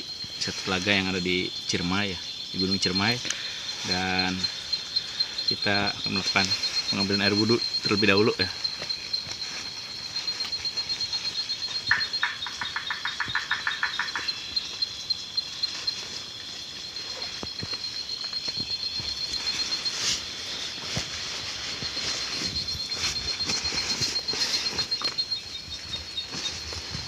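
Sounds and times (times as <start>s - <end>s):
cricket trill: 0.0s - 27.0s
lower faster insect trill: 0.0s - 27.0s.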